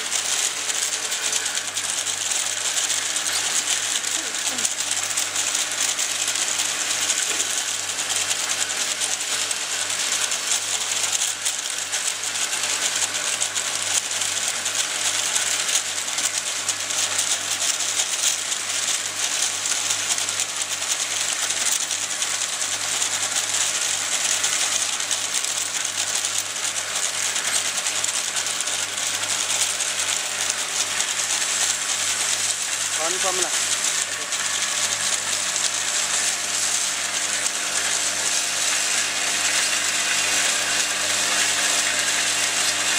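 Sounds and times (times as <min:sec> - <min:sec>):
filling machine clattering: 0:00.0 - 0:42.9.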